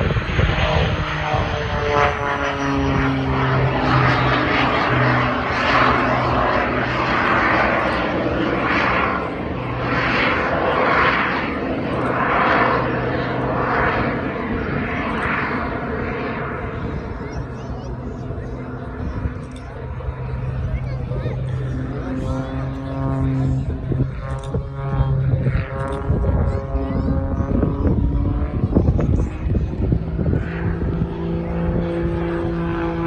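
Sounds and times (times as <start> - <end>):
propeller plane engine: 0.0 - 33.0
small jet engine whine: 0.0 - 33.0.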